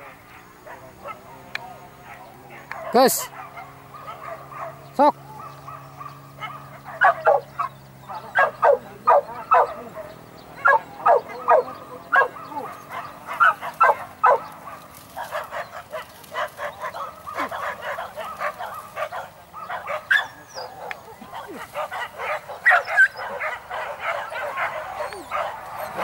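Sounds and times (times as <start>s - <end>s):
dogs barking and yelping: 0.0s - 26.0s.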